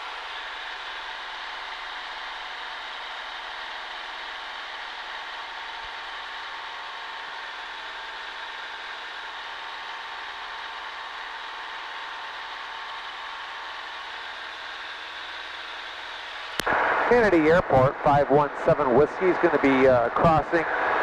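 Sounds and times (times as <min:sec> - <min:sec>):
airplane engine and propeller droning: 0:00.0 - 0:21.0.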